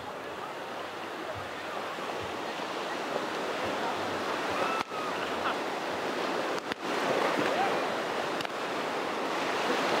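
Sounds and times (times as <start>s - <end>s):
waves washing on sandy beach: 0.0s - 10.0s.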